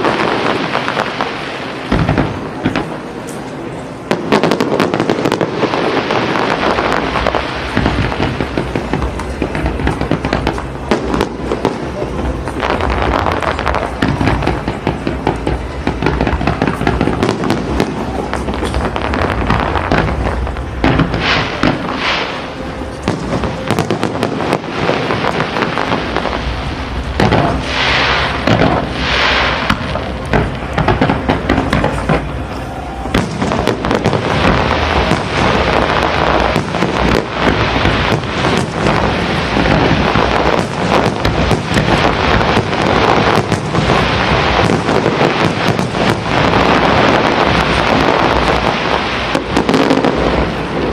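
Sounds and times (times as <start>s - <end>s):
fireworks bangs and pops: 0.0s - 50.9s
hissing crackle of fireworks: 0.0s - 50.9s.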